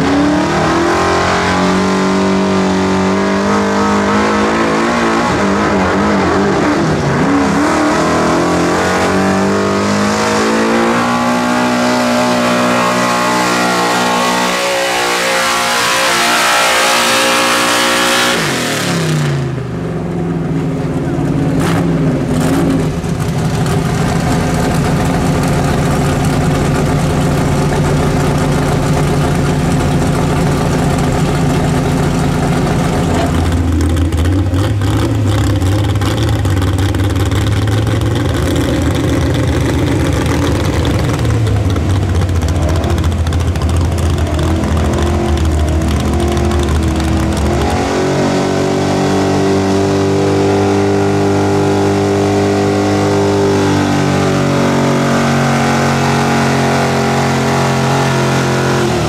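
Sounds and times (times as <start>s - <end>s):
truck engine at full throttle: 0.0s - 59.0s.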